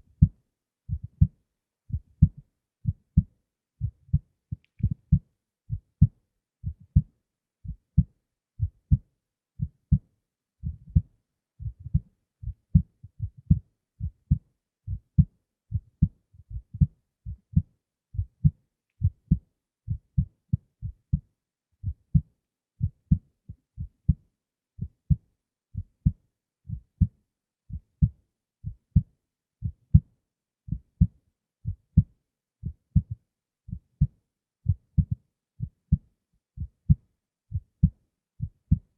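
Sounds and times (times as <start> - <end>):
heartbeat thumps: 0.2 - 10.0, 10.6 - 23.2, 24.8 - 25.2, 25.8 - 30.1, 30.7 - 31.1, 31.7 - 33.2, 34.7 - 38.9.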